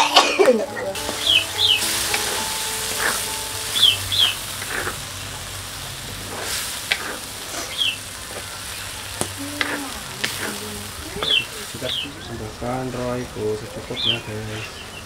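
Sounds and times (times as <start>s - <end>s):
food sizzling in a wok: 0.4s - 13.6s.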